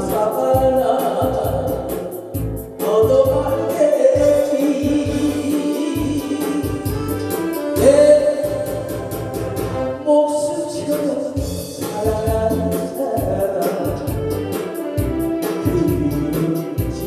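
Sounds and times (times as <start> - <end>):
instrumental backing track: 0.0 - 17.0
man singing with vibrato: 0.0 - 17.0.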